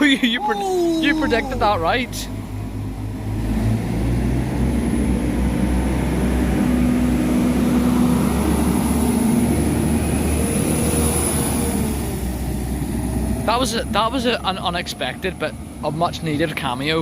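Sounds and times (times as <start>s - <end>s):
train engine rumble and hum: 0.0s - 17.0s.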